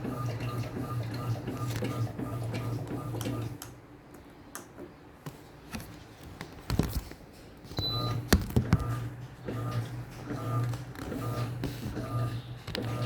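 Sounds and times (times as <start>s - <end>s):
washing machine humming and ticking: 0.0s - 4.8s, 7.2s - 13.0s.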